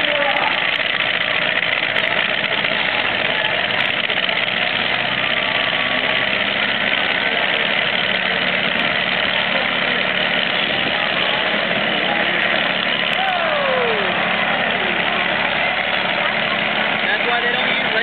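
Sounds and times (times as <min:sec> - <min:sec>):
truck engine running loud: 0:00.0 - 0:18.0.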